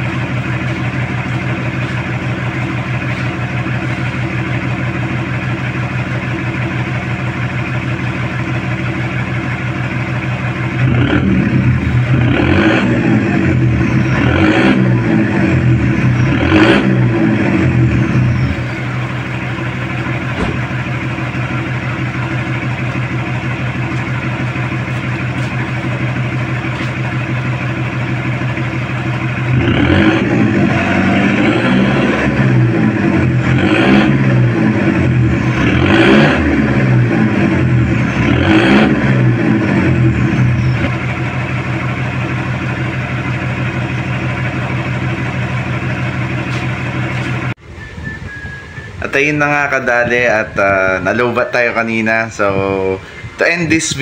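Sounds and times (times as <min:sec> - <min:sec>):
van exhaust idling and revving: 0:00.0 - 0:54.0.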